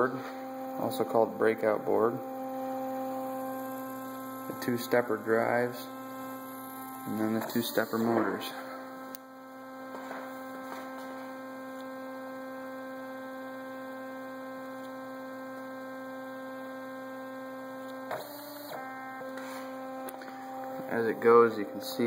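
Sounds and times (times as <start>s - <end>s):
stepper motors humming: 0.0s - 22.0s.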